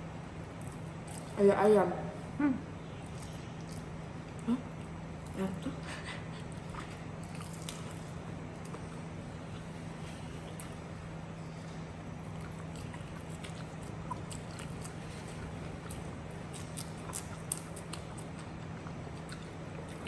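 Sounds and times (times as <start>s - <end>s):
steady low hum: 0.0s - 20.0s
crunchy food chewing: 0.4s - 1.4s, 2.9s - 5.4s, 6.4s - 20.0s.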